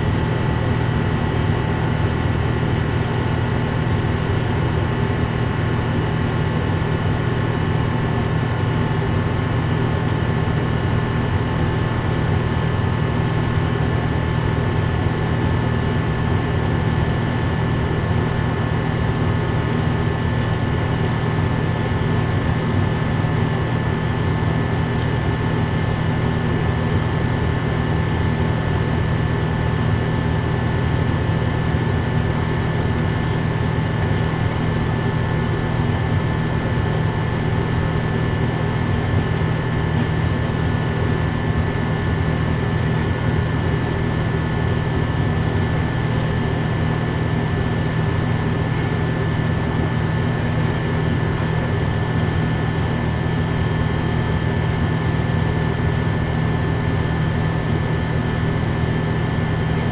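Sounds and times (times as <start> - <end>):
low drone of jet engines: 0.0 - 59.9.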